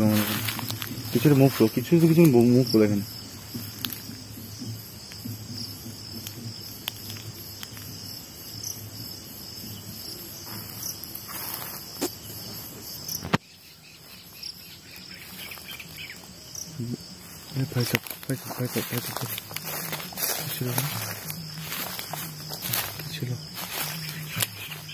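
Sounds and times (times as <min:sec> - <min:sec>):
night insects chirring: 0:00.0 - 0:24.9.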